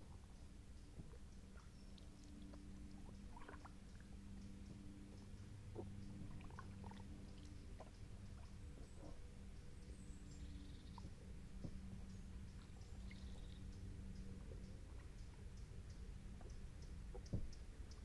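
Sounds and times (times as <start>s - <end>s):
low steady hum: 0.0s - 18.0s
water drips around kayak: 0.0s - 18.0s.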